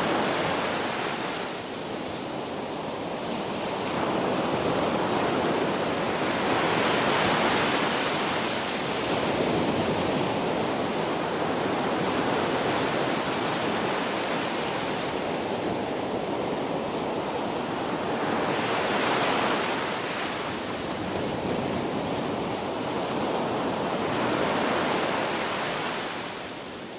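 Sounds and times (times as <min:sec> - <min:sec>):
sea waves breaking on beach: 0:00.0 - 0:26.9.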